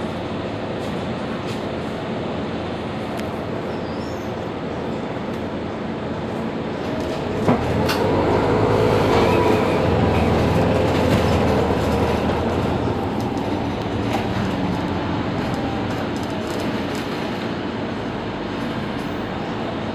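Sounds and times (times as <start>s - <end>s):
diesel bus idling: 0.0s - 19.9s.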